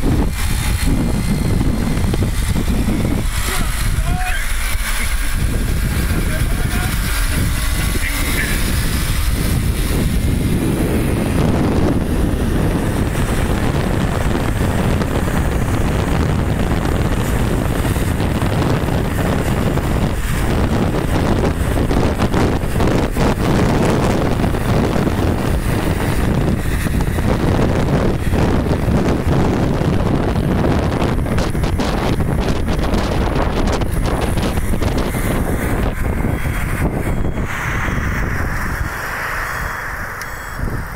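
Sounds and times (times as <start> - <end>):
road noise: 0.0 - 40.9
wind buffeting microphone: 0.0 - 40.9.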